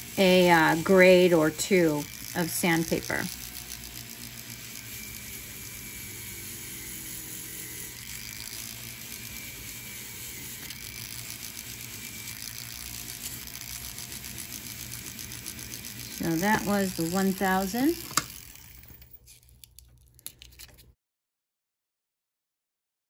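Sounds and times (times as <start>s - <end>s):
rotary tool sanding metal: 0.0s - 19.4s.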